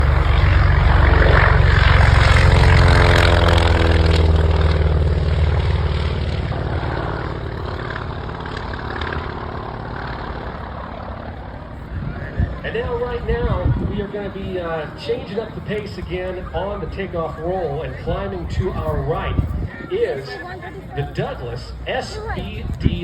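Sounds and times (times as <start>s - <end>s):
propeller plane passing: 0.0s - 23.0s.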